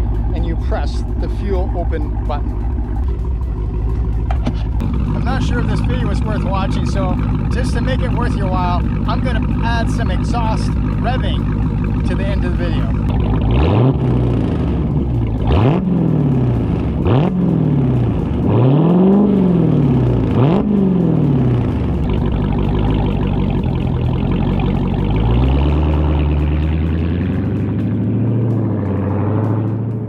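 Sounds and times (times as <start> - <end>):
car engine revving and idling: 0.0 - 30.0.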